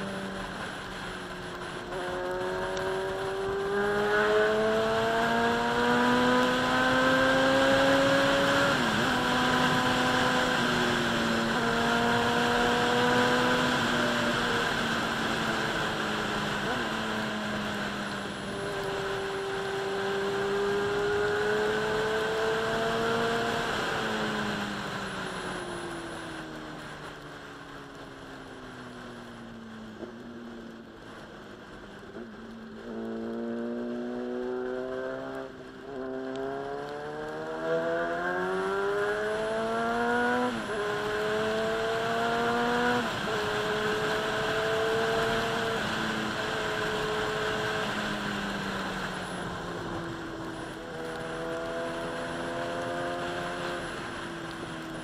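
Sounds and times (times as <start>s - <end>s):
motorcycle engine revving: 0.0s - 27.8s, 31.8s - 55.0s.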